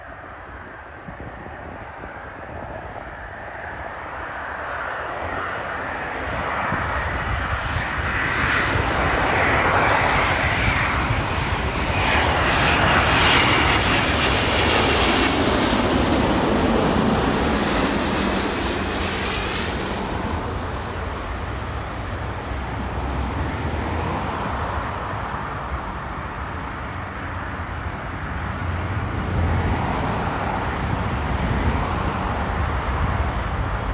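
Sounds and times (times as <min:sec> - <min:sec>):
jet engines passing overhead: 0:00.0 - 0:33.9.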